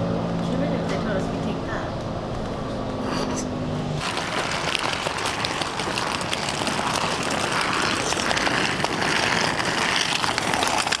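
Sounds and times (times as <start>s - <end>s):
traffic and street noise: 0.0s - 11.0s.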